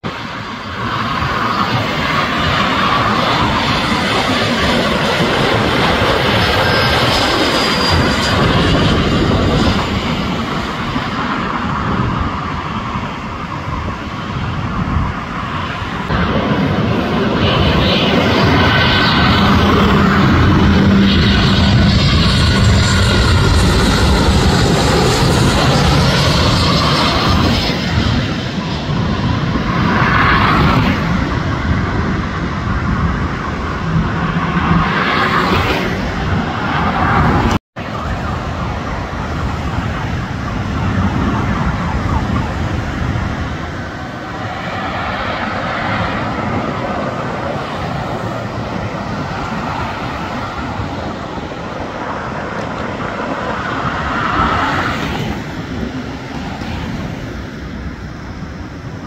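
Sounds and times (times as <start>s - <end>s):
jet airliner engines: 0.0s - 59.0s
road traffic: 0.0s - 59.0s.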